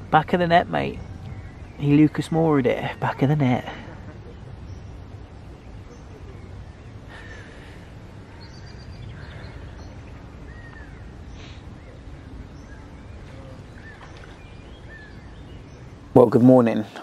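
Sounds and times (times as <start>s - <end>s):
birds chirping: 0.0s - 17.0s
rain falling on a lake: 0.0s - 17.0s.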